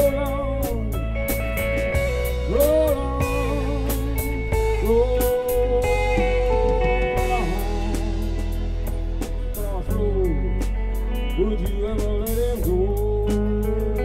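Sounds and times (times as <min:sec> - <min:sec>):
bass: 0:00.0 - 0:14.0
drums with cymbals: 0:00.0 - 0:14.0
lead electric guitar bending notes: 0:00.0 - 0:14.0.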